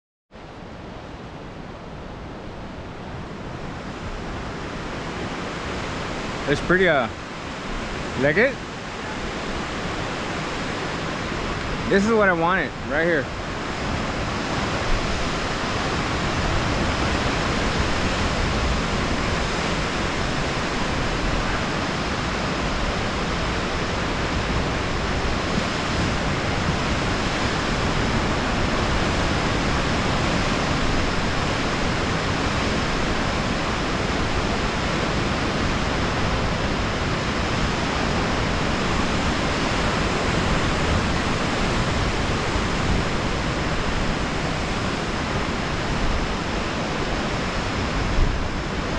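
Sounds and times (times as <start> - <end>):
ocean surf breaking on rocks: 0.8 - 48.9.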